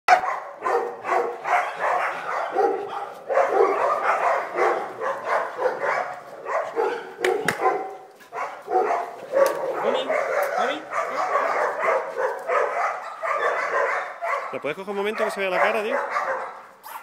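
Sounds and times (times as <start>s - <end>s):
dog barking: 0.1s - 17.0s.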